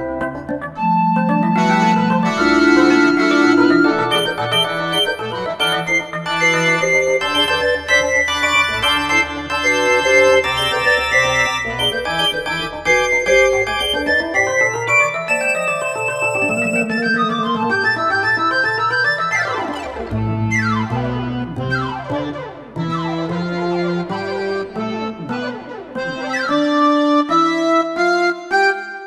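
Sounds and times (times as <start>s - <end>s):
organ-like keyboard music: 0.0s - 29.0s.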